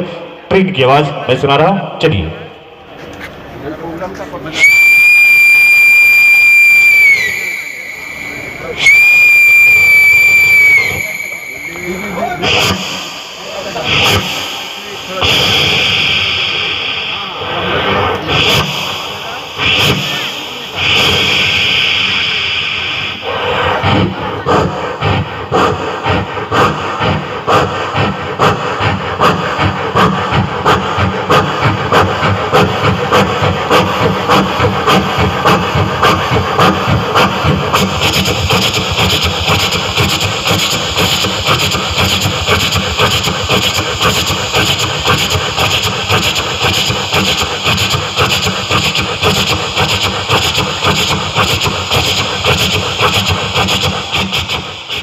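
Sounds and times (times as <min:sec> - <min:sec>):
man imitating train chugging: 0:04.5 - 0:55.0
vocal steam hiss: 0:08.3 - 0:55.0.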